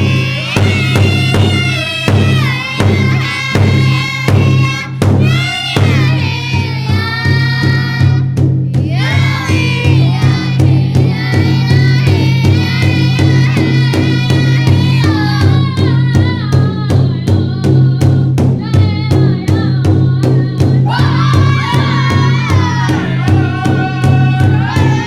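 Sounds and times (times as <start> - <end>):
group of voices singing: 0.0 - 25.0
steady drumbeat: 0.0 - 25.0.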